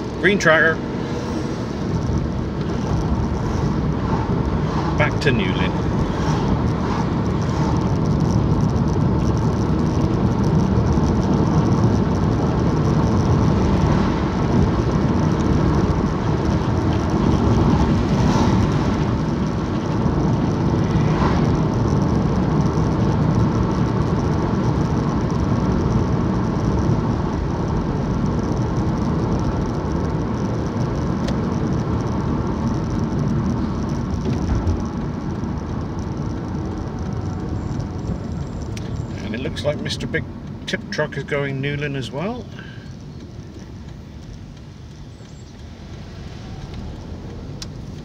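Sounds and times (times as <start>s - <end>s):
car engine noise from inside: 0.0s - 48.0s
tyre noise on road: 0.0s - 48.0s.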